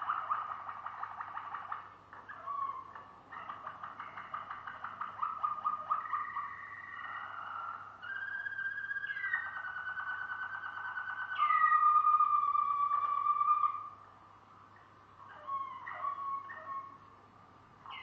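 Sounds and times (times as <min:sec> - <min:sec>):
canary singing rolling tours: 0:00.0 - 0:14.2, 0:14.8 - 0:17.2, 0:17.8 - 0:18.0.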